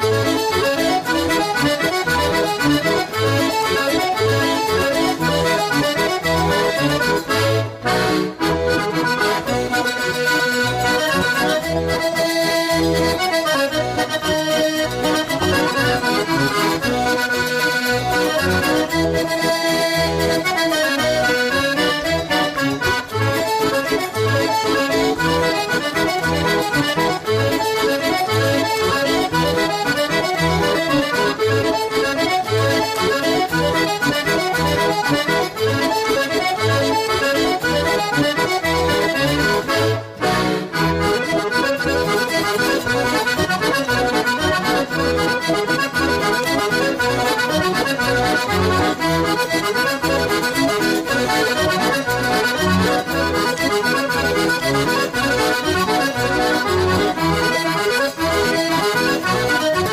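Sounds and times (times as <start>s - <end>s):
accordion folk dance music: 0.0s - 59.9s.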